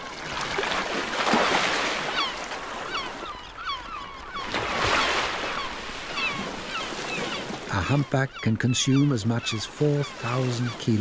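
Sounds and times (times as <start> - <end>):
seawater rushing and splashing: 0.0 - 11.0
seabird cries: 1.2 - 11.0.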